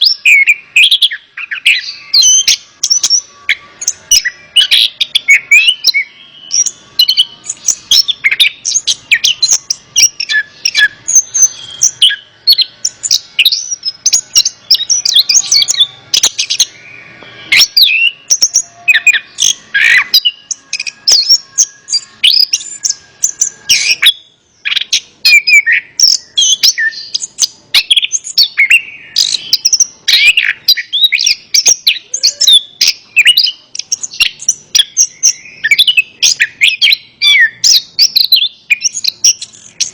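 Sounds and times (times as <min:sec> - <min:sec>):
thrush song whistles and chatter: 0:00.0 - 0:39.9.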